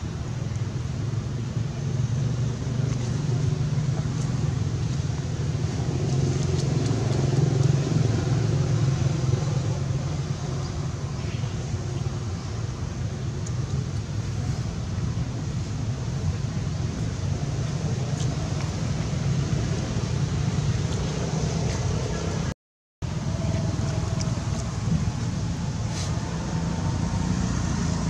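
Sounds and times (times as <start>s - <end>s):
vehicle engine rumble: 0.0s - 28.0s.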